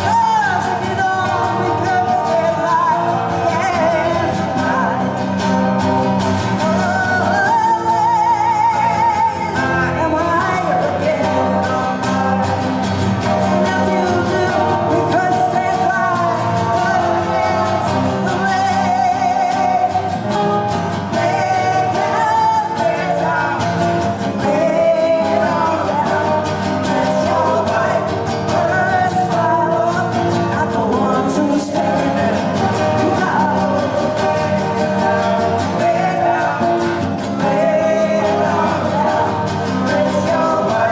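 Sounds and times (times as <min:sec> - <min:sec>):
guitar accompaniment: 0:00.0 - 0:40.9
woman singing: 0:00.0 - 0:40.9.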